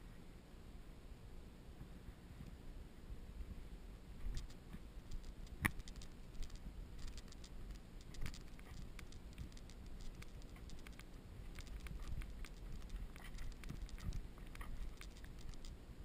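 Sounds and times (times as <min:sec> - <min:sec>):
steady low rumble: 0:02.4 - 0:16.0.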